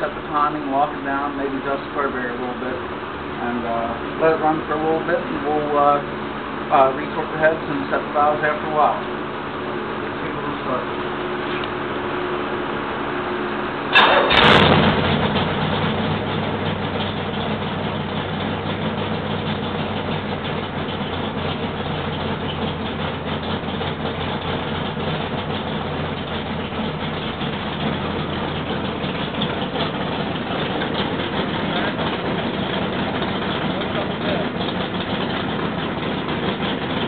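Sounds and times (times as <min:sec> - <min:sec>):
engine starting and running: 0:00.0 - 0:37.0.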